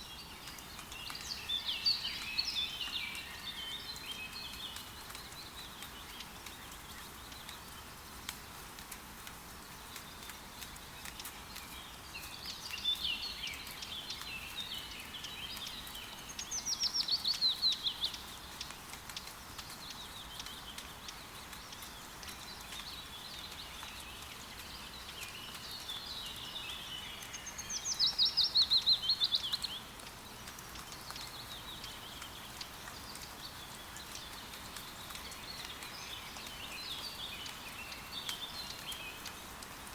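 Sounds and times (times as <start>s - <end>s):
songbird singing: 0.0s - 8.0s, 9.9s - 39.9s
steady rain pattering: 0.0s - 39.9s
water drips: 0.0s - 39.9s.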